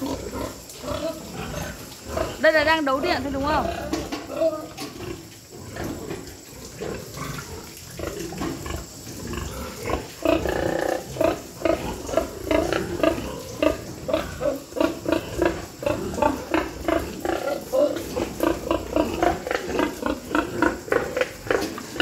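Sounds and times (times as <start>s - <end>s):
pigs grunting: 0.0s - 22.0s.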